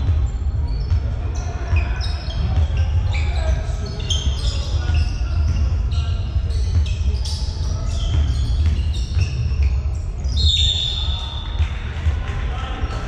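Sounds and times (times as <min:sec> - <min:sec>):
basketball bouncing: 0:00.0 - 0:10.9
shoe squeaks on court: 0:00.0 - 0:11.7.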